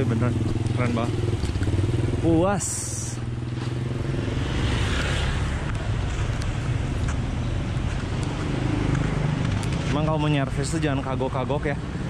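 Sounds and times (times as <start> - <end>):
vehicle engine running: 0.0 - 11.7
road noise: 0.0 - 12.0.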